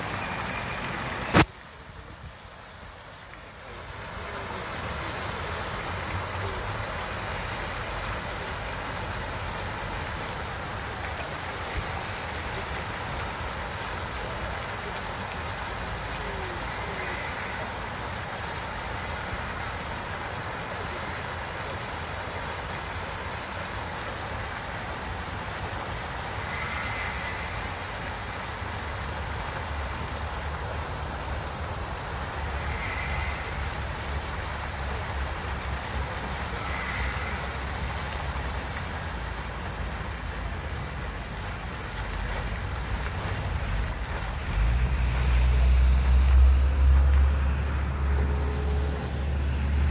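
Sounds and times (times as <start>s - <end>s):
fountain water splashing: 0.0s - 49.9s.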